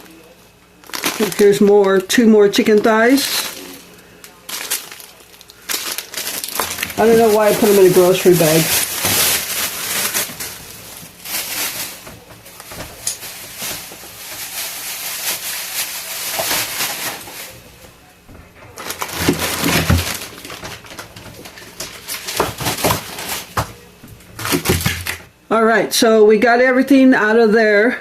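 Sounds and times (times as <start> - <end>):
plastic bags crinkling: 0.0 - 25.3
frozen packs knocking: 0.8 - 25.3.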